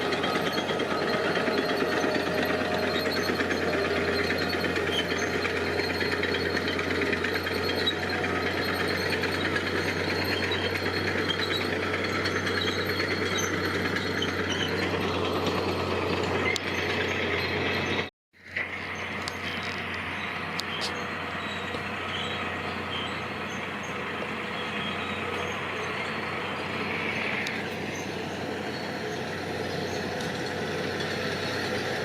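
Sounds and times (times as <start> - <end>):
diesel engine clattering: 0.0 - 32.0.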